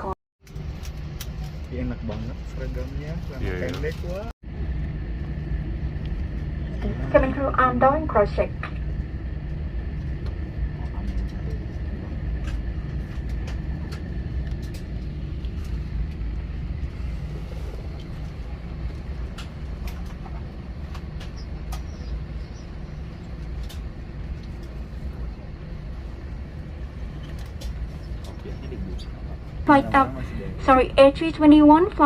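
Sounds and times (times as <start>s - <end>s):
airliner cabin rumble: 0.0s - 32.0s.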